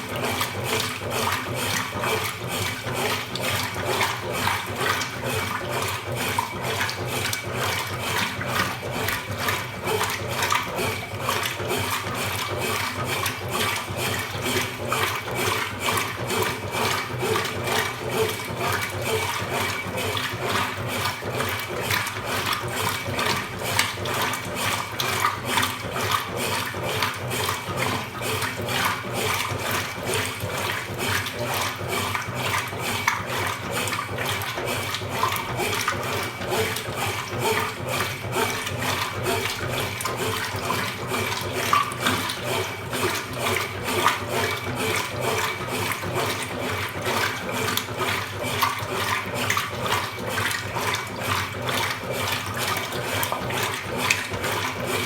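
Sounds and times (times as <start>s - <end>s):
washing machine water sloshing: 0.0s - 55.0s.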